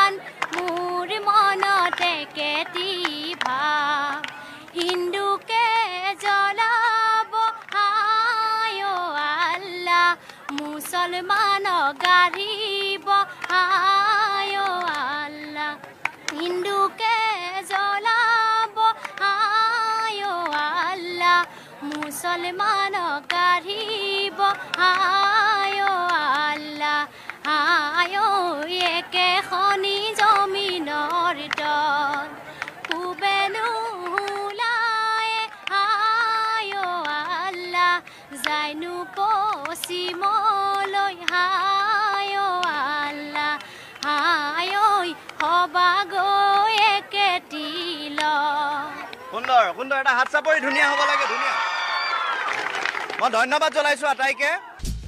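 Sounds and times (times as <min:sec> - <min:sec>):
woman singing devotional song: 0:00.0 - 0:49.2.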